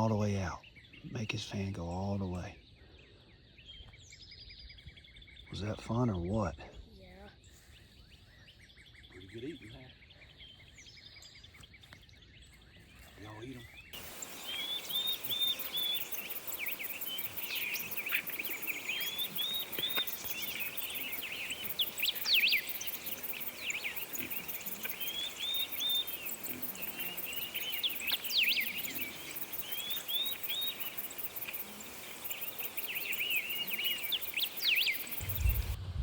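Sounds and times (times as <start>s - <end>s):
songbirds singing and chirping: 0.0s - 36.0s.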